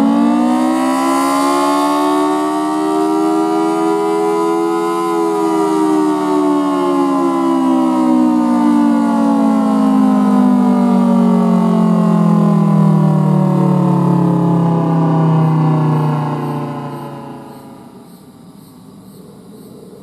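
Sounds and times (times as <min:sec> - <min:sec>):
warning siren two-tone chord: 0:00.0 - 0:18.1.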